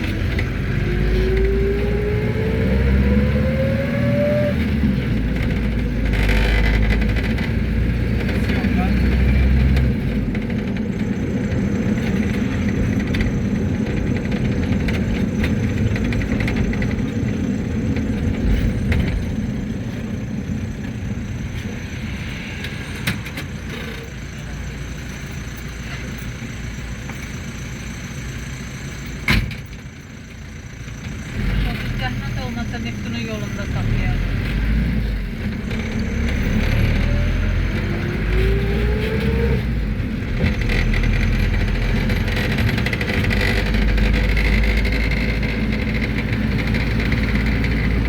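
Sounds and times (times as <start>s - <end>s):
minibus engine and road rumble: 0.0s - 48.0s.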